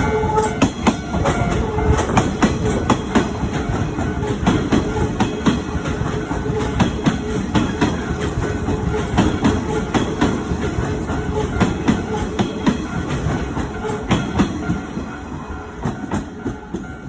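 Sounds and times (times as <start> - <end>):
train rumble: 0.0 - 17.0
train wheels clacking over rail joints: 0.0 - 17.0.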